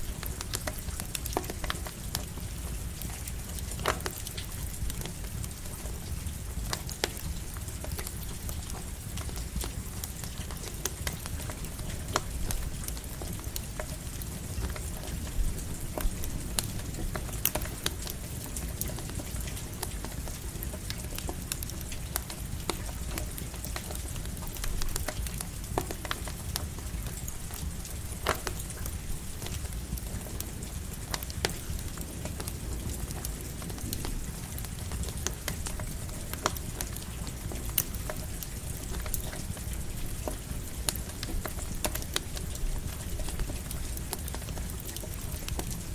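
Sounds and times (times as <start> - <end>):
campfire crackling and popping: 0.0 - 45.9
light rain hissing: 0.0 - 45.9.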